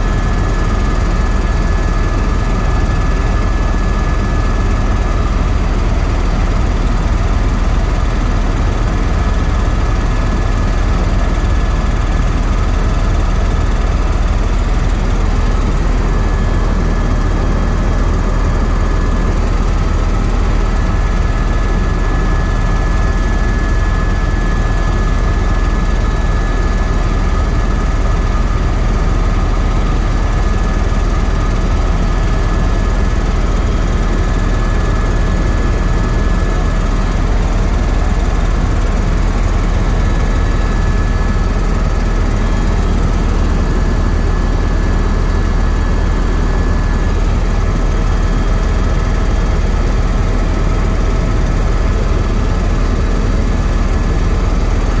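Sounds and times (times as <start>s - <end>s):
helicopter rotor and engine drone: 0.0s - 55.0s
thin steady whine: 0.0s - 55.0s.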